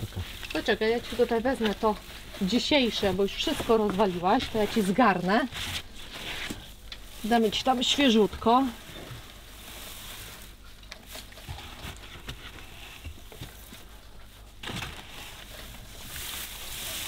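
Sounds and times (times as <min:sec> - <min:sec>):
dry hay rustling and crackling: 0:00.0 - 0:17.0.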